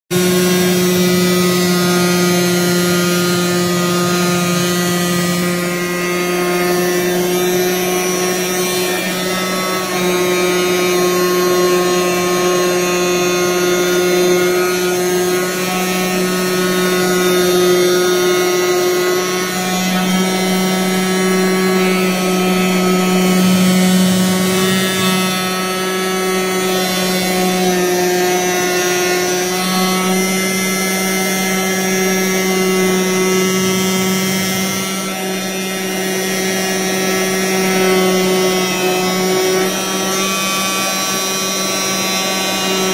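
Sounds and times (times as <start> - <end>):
cutting machine humming: 0.1 - 42.9.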